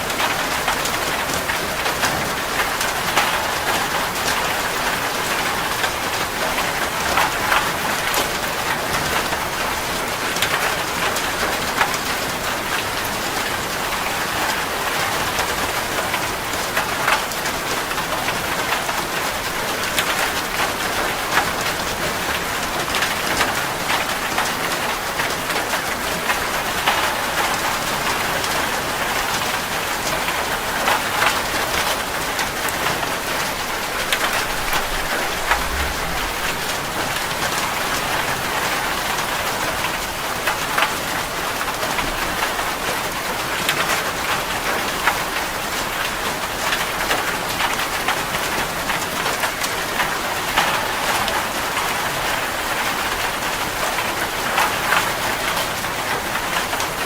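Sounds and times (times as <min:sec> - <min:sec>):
steady rain falling: 0:00.0 - 0:57.0
raindrops tapping on a surface: 0:00.1 - 0:57.0.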